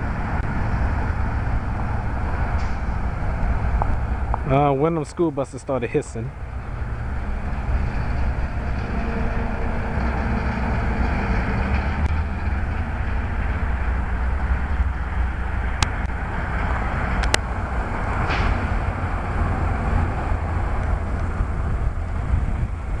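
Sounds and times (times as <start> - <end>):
wind noise on microphone: 0.0 - 5.4, 6.3 - 23.0
street traffic rumble: 0.0 - 23.0.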